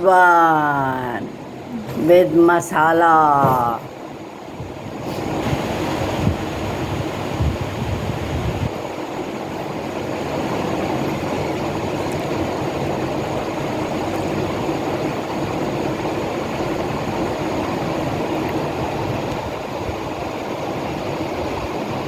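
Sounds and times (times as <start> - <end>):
faint constant hum: 0.0 - 22.0.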